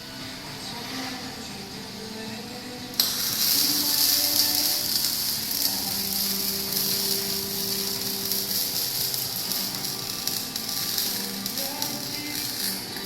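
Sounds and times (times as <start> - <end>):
welding arc hissing crackle: 0.7 - 13.0.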